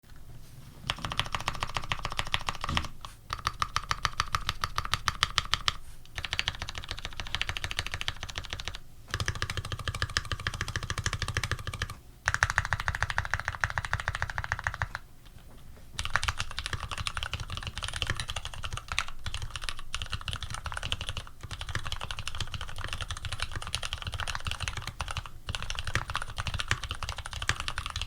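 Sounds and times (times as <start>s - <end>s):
fast typing on mechanical keyboard: 0.9s - 15.0s, 16.0s - 28.0s.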